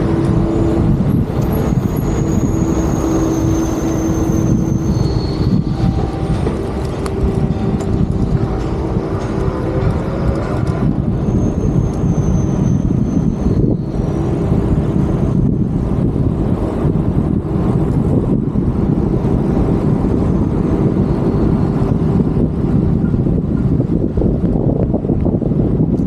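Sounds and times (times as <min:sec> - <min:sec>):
city road traffic rumble: 0:00.0 - 0:26.0.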